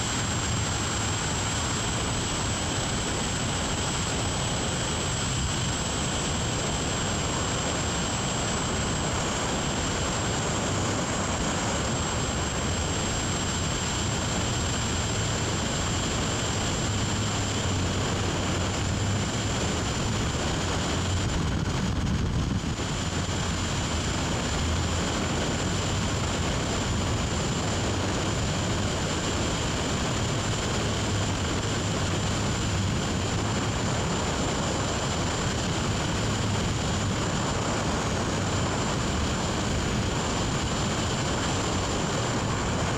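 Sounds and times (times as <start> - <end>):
freefall wind buffeting microphone: 0.0 - 42.9.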